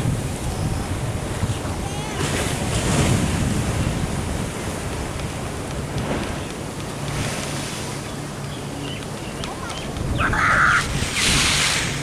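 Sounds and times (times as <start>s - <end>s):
waves breaking against sea wall: 0.0s - 12.0s
wind buffeting microphone: 0.0s - 12.0s.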